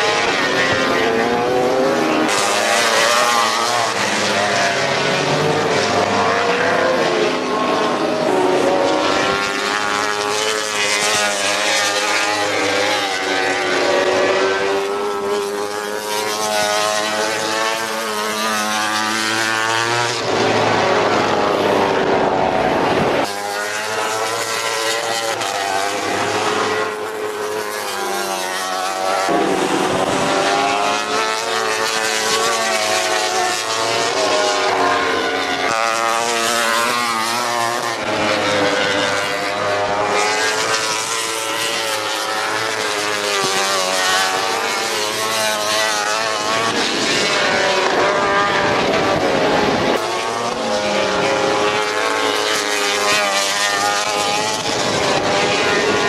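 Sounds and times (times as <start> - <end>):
racing motorcycles passing at high revs: 0.0 - 56.0.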